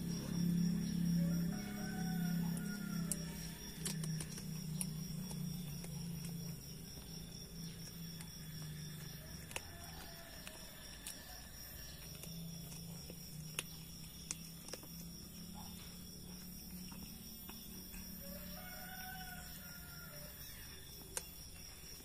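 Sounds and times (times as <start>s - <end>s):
cat eating with crunching clicks: 0.0s - 22.0s.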